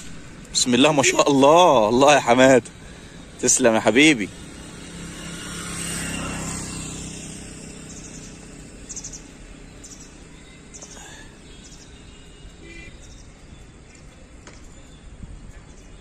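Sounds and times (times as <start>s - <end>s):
outdoor background noise: 0.0s - 16.0s
small birds chirping: 0.0s - 16.0s.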